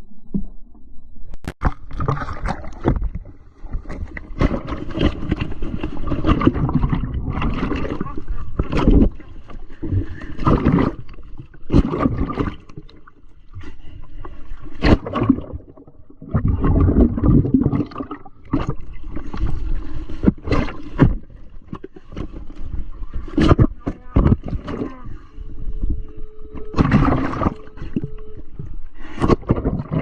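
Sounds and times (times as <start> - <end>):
water sloshing and splashing: 1.6 - 30.0.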